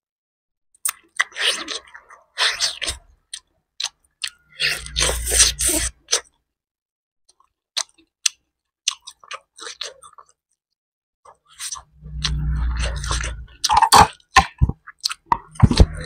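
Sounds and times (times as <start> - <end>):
chewing and gnawing on bone: 0.8 - 6.4, 7.3 - 10.7, 11.3 - 16.0.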